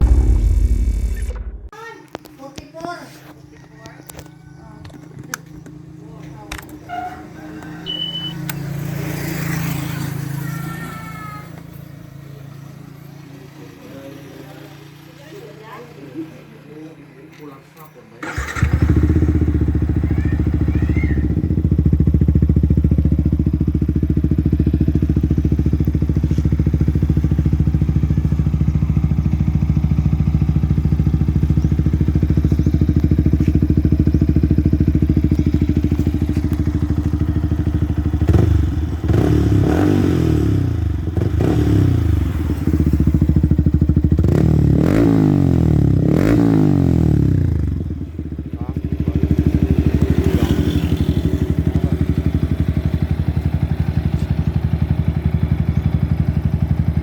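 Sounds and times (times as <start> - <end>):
motorcycle engine idling: 3.3 - 57.0
motorcycle engine revving: 4.1 - 16.9, 18.2 - 57.0.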